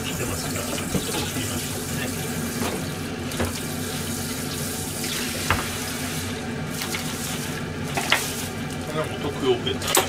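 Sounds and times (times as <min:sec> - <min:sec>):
tap water running into sink: 0:00.1 - 0:08.8.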